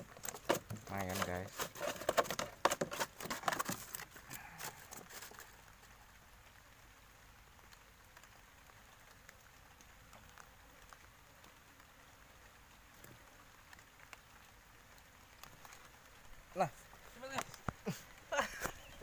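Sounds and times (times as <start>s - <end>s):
light rain hissing on water: 0.0s - 19.0s.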